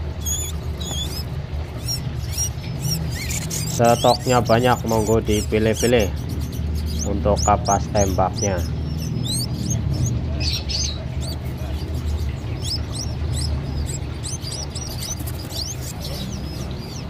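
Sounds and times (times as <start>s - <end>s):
caged birds chirping: 0.0s - 17.0s
steady low hum: 0.0s - 17.0s.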